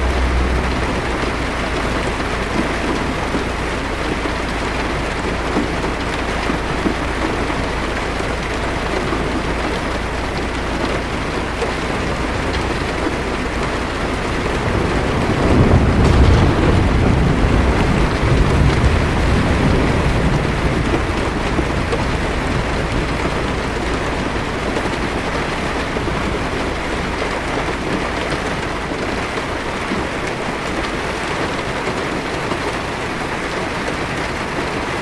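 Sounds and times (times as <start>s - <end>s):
low roll of thunder: 0.0s - 30.0s
heavy rain drumming on car roof: 0.0s - 35.0s.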